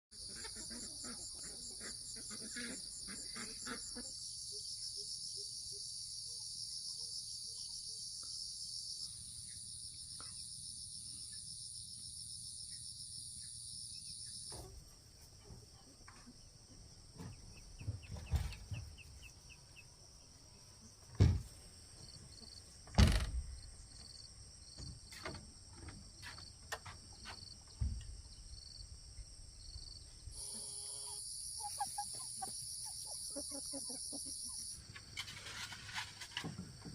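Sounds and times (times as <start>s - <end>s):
insects trilling: 0.1s - 14.8s, 21.9s - 36.9s.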